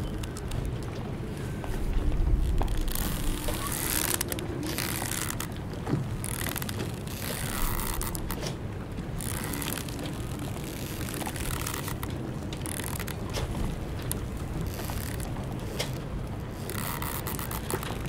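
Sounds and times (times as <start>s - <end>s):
mooring ropes creaking: 0.0s - 18.0s
waves slapping against hulls: 0.0s - 18.0s
boat fittings clicking: 2.4s - 8.6s, 9.2s - 18.0s.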